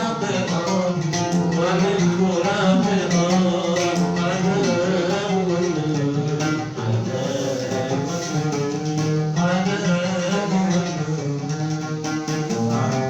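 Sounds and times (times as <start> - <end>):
musical accompaniment: 0.0 - 13.0
plucked string instrument melody: 0.0 - 13.0.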